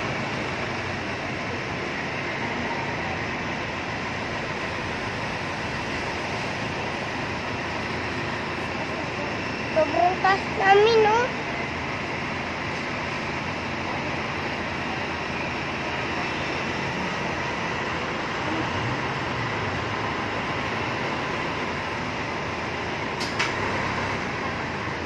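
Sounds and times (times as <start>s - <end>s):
truck engine hum inside cab: 0.0s - 25.0s.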